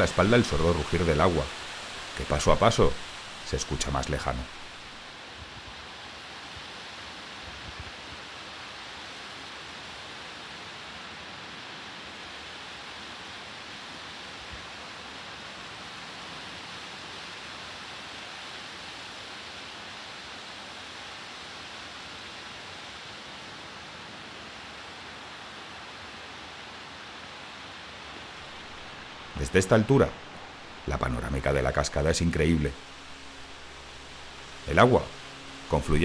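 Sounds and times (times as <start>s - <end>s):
distant waterfall roar: 0.0s - 36.0s.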